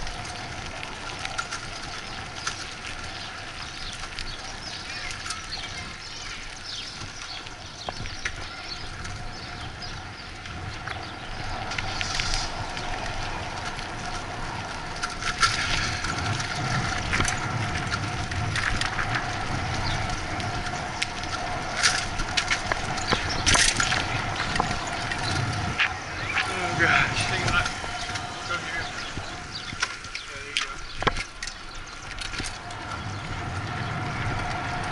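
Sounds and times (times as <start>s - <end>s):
bicycle rattling over bumps: 0.0s - 34.9s
tyres rolling over pavement: 0.0s - 34.9s
wind rumbling on microphone: 0.0s - 34.9s.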